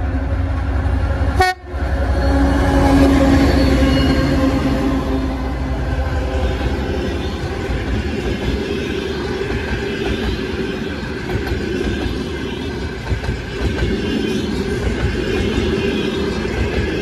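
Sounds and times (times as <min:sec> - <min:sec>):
train wheels running on rails: 0:00.0 - 0:17.0.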